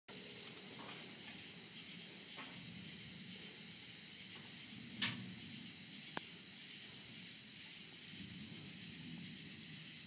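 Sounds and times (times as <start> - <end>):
crickets chirring: 0.1 - 10.0.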